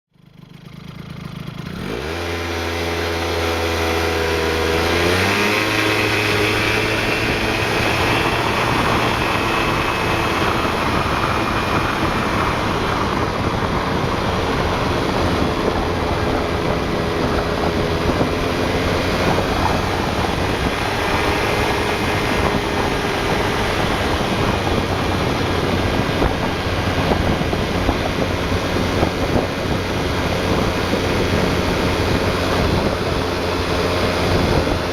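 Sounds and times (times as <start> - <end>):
scooter engine running: 0.1 - 34.9.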